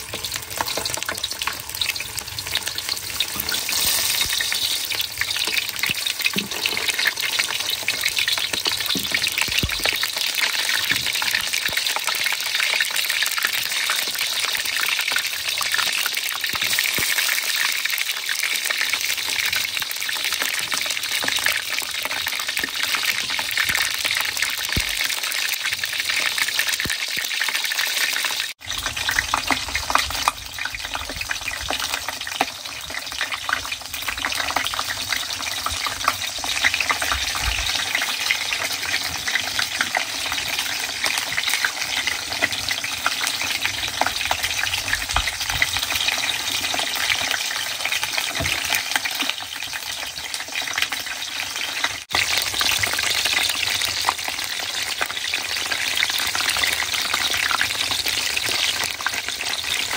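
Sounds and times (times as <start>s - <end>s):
eggplant sizzling in oil: 0.0s - 59.9s.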